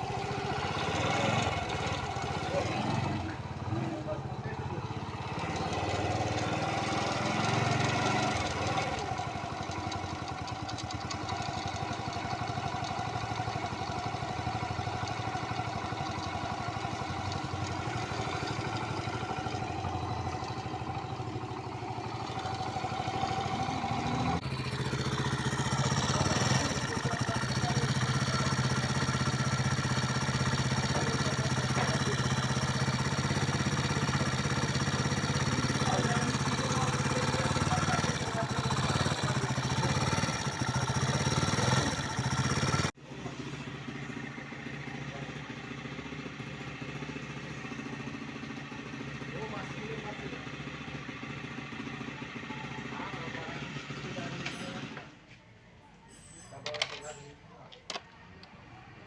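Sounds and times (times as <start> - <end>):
small motorcycle engine running: 0.0 - 55.1, 56.5 - 57.3.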